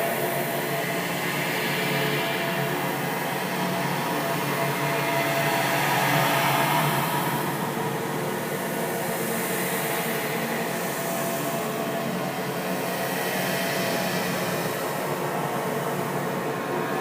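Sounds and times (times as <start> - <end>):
eerie ambient drone: 0.0 - 17.0.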